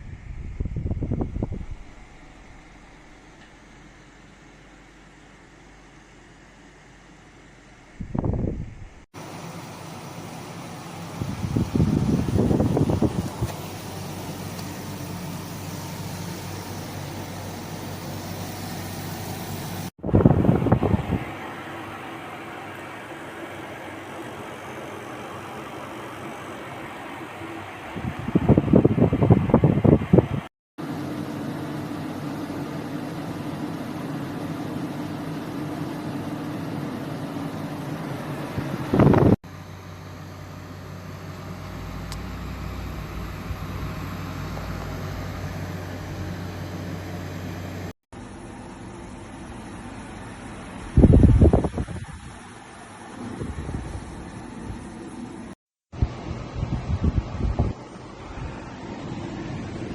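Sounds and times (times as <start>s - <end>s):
air conditioner humming: 0.0s - 55.4s.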